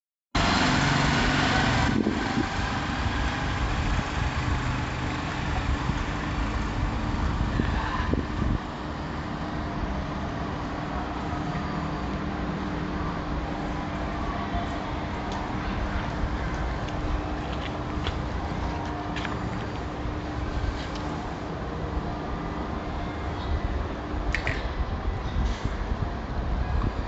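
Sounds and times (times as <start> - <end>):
rushing background noise: 0.4 - 27.0.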